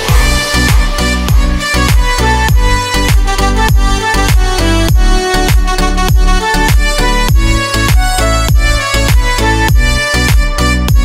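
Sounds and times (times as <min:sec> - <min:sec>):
deep kick drum beat: 0:00.0 - 0:11.0
upbeat dance music: 0:00.0 - 0:11.0.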